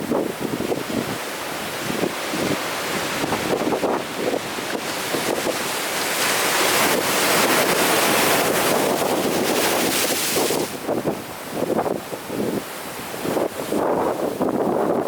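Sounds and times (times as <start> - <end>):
ocean surf crashing onto shore: 0.0 - 14.9.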